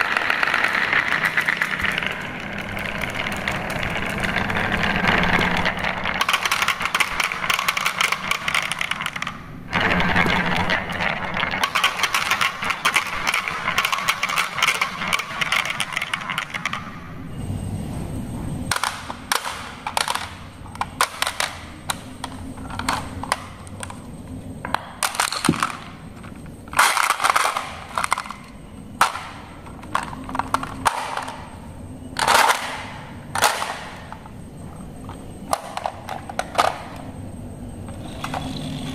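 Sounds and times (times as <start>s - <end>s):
marbles rattling inside toy: 0.0s - 16.9s, 18.7s - 24.1s, 24.7s - 37.2s
plastic toy parts clicking: 0.0s - 16.9s, 18.7s - 24.1s, 24.7s - 31.6s, 32.2s - 34.3s, 35.0s - 37.1s.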